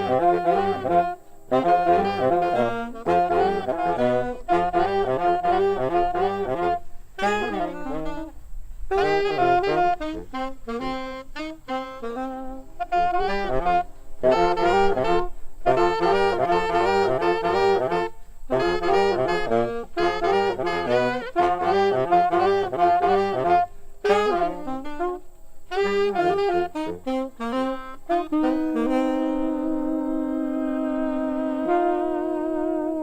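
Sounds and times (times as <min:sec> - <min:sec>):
jazz saxophone: 0:00.0 - 0:33.0.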